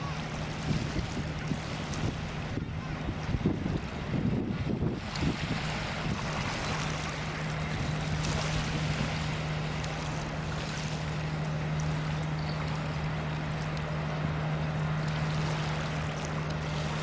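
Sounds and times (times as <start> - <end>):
ship engine humming: 0.0 - 17.0.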